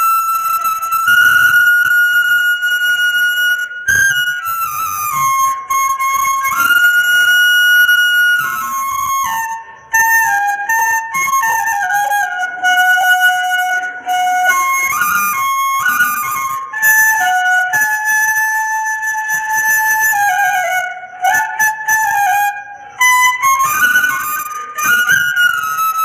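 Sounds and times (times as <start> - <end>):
bamboo flute melody: 0.0 - 26.0.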